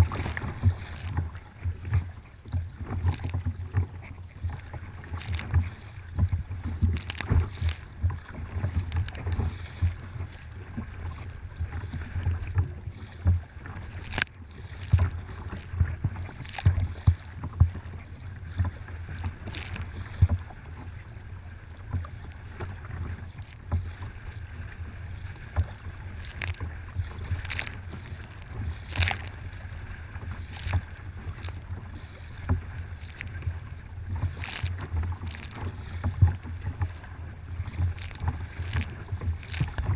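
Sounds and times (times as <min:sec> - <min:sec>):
water slapping against kayak hull: 0:00.0 - 0:39.9.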